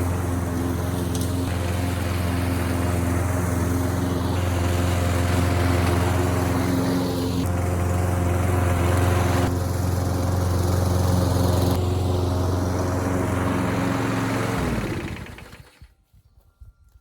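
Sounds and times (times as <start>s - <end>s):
lawn mower engine running: 0.0s - 15.9s.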